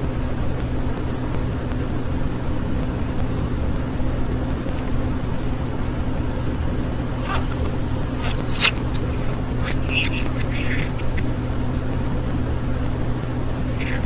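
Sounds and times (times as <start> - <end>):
constant hiss: 0.0 - 14.0.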